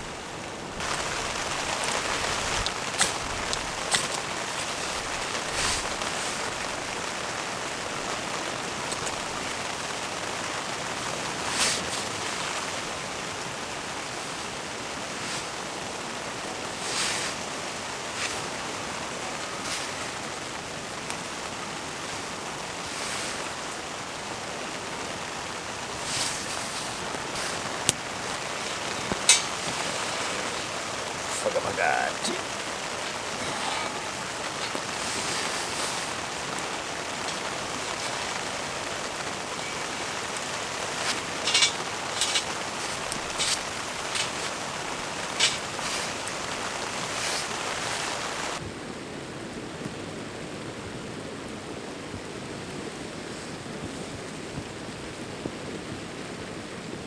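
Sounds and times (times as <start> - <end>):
outdoor water noise: 0.0 - 57.0.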